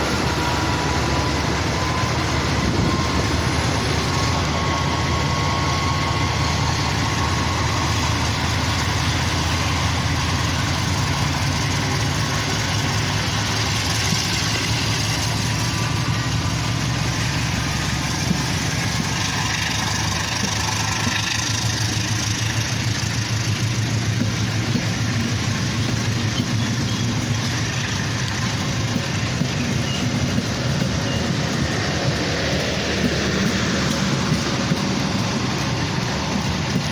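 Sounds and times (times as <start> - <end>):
train diesel engine rumbling: 0.0 - 36.9.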